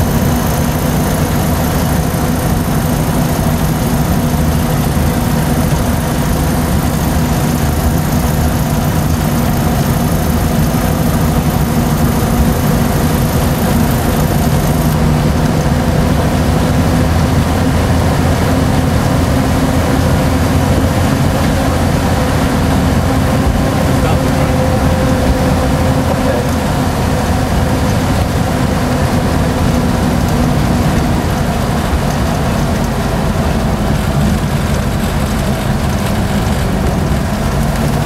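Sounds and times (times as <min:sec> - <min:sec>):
rail motorcar engine running: 0:00.0 - 0:38.0.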